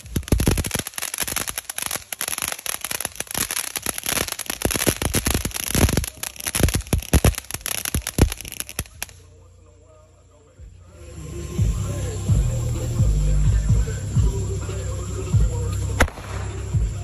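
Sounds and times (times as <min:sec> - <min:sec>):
fireworks crackling: 0:00.0 - 0:09.5, 0:10.6 - 0:17.0.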